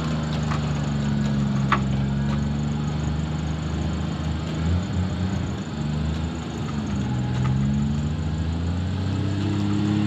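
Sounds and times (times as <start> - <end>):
vehicle engine running: 0.0 - 10.0
winch dragging car: 0.0 - 10.0.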